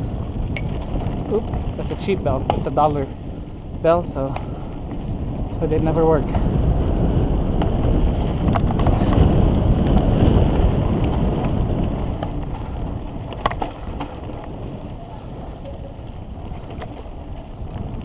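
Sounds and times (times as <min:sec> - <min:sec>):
bike rattling: 0:00.0 - 0:18.0
tyres on loose dirt: 0:00.0 - 0:18.0
wind buffeting microphone: 0:00.0 - 0:18.0.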